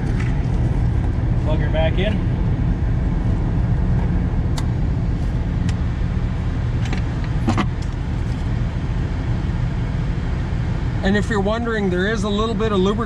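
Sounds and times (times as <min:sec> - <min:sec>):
truck engines idling: 0:00.0 - 0:13.0.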